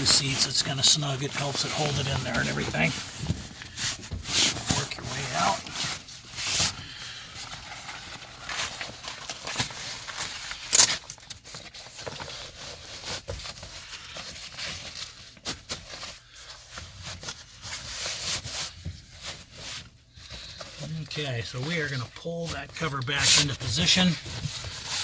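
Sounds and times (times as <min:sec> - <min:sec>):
fabric rustling and scraping: 0:00.0 - 0:25.0.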